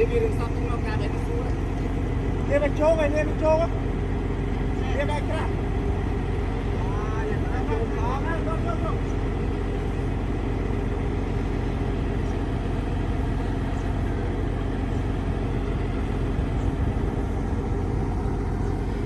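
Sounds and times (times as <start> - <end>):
heavy machine engine droning: 0.0 - 19.0.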